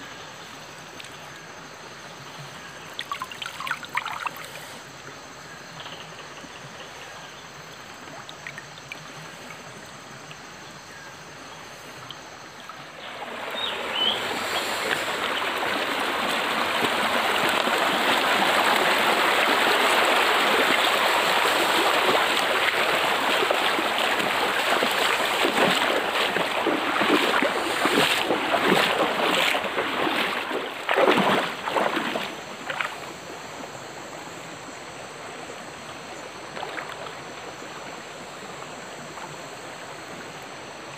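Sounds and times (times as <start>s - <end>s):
stream water rushing and splashing: 0.0s - 40.9s.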